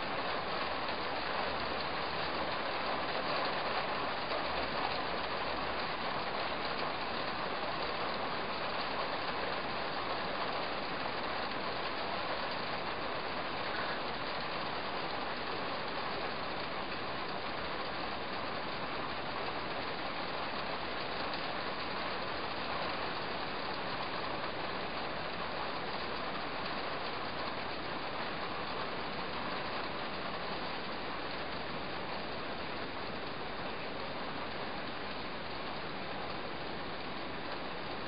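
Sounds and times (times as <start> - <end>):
car cabin noise in rain: 0.0 - 38.0.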